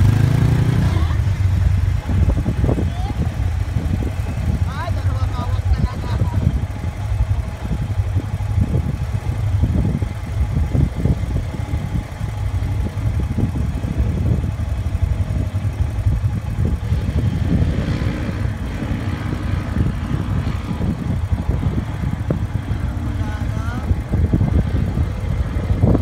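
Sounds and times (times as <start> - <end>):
utility vehicle engine running: 0.0 - 26.0.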